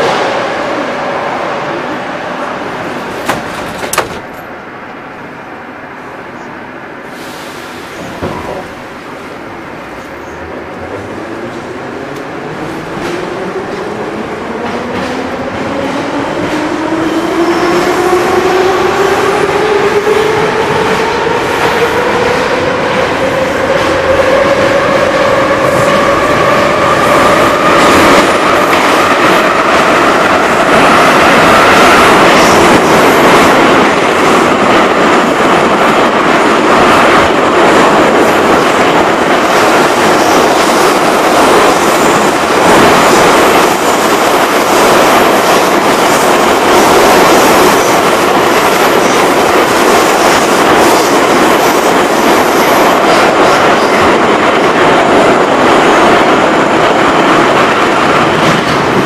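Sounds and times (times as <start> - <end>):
train wheels roaring on rails: 0.0 - 59.0
train whine: 0.0 - 59.0.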